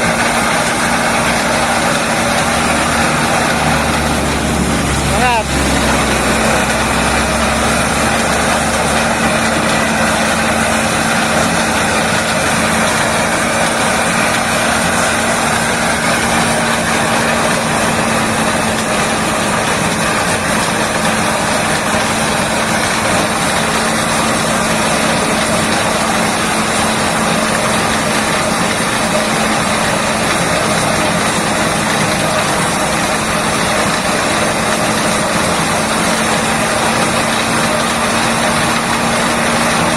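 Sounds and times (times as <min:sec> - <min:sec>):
corn sheller machine running: 0:00.0 - 0:39.9.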